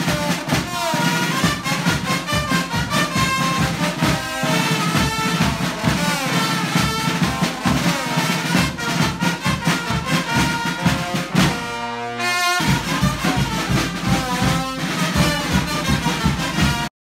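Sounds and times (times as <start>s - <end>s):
brass band playing: 0.0s - 16.9s
steady drum beat: 0.0s - 16.9s.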